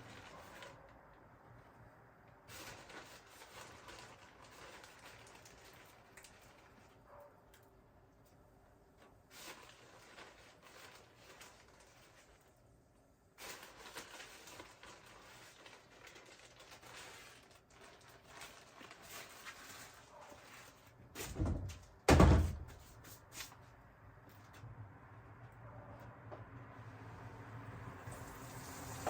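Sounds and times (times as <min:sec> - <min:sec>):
handling and rustling: 0:00.0 - 0:01.8, 0:02.4 - 0:24.7.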